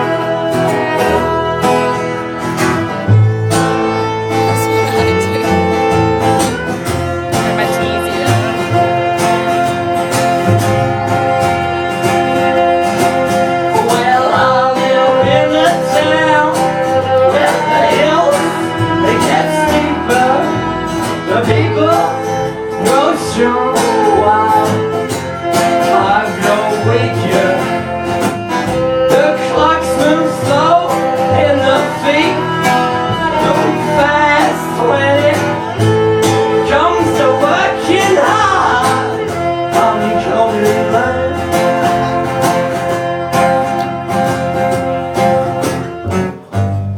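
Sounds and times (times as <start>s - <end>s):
guitar: 0.0s - 46.9s
fiddle sliding and wavering: 0.1s - 46.2s.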